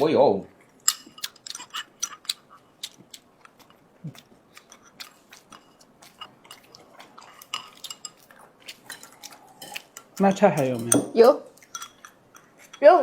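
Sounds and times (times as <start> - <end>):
people chewing: 0.6 - 12.8.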